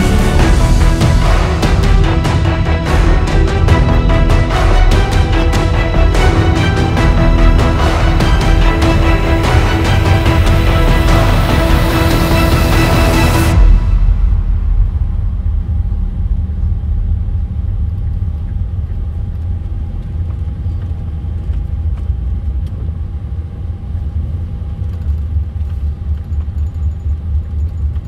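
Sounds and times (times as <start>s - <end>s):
car engine and tyres rumbling: 5.0s - 28.0s.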